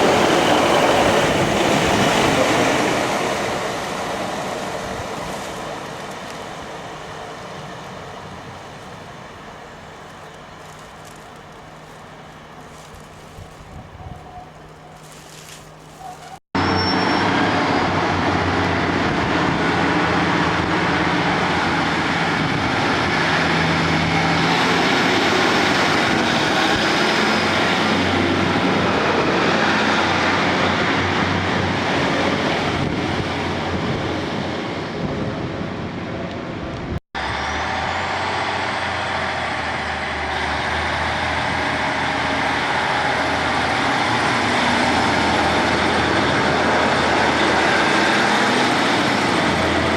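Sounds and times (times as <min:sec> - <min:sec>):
train engine rumbling: 0:00.0 - 0:49.9.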